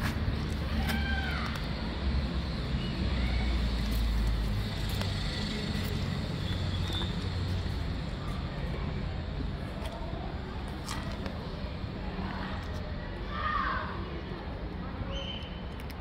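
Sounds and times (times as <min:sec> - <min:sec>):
low rumble of road traffic: 0:00.0 - 0:16.0.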